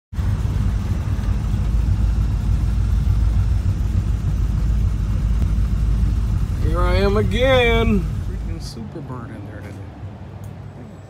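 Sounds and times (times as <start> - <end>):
car engine low rumble: 0.1 - 11.0.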